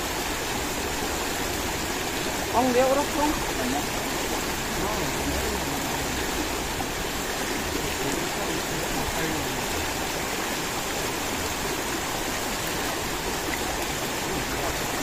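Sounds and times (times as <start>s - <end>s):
river water rushing around stones: 0.0s - 15.0s.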